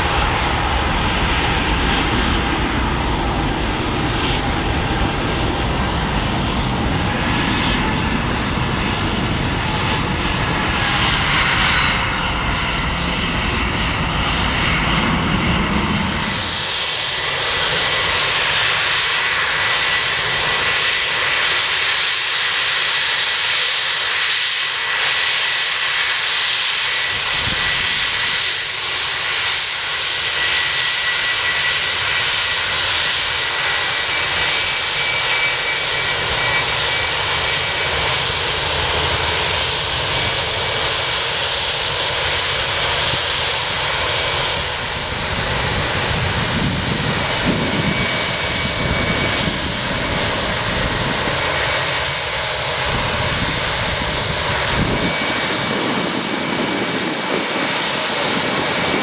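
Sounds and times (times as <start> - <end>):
jet engines whining and roaring: 0.0 - 59.0.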